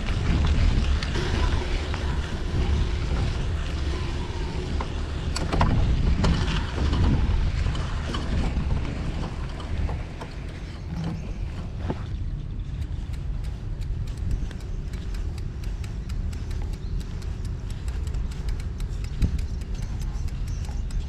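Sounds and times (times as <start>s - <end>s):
city street traffic: 0.0s - 21.0s
wind rumble on microphone: 0.0s - 21.0s.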